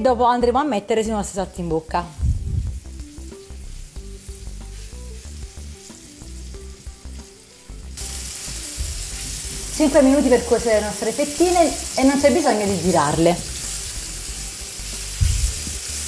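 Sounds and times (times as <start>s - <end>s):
meat sizzling in a pan: 1.1s - 16.0s
spatula moving meat in pan: 2.7s - 16.0s.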